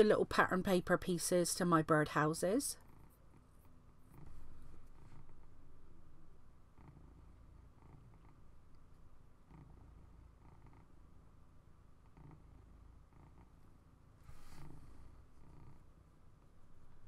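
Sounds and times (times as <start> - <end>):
cat purring: 2.2 - 17.0.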